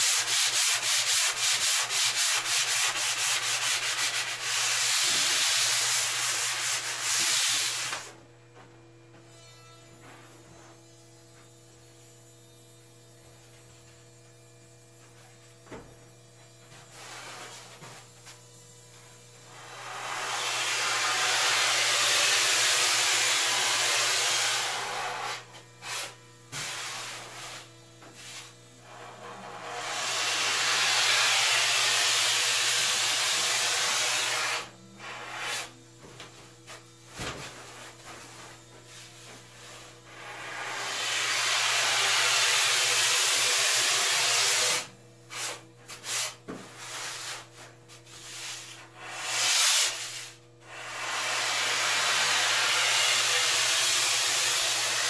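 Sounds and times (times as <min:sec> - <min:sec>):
low electrical hum: 0:00.0 - 0:43.1, 0:44.8 - 0:54.9.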